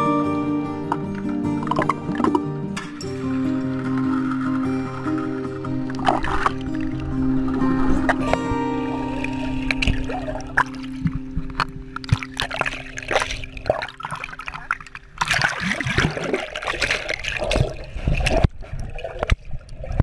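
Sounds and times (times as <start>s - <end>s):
water splashing and sloshing: 0.8s - 20.0s
bubbling: 3.2s - 20.0s.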